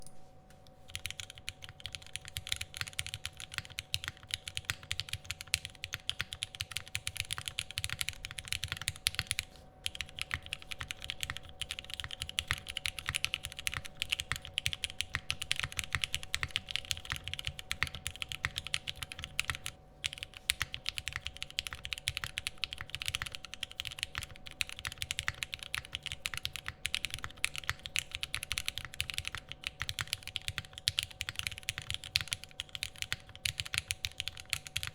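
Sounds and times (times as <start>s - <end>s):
fast mechanical keyboard typing: 0.9s - 34.9s.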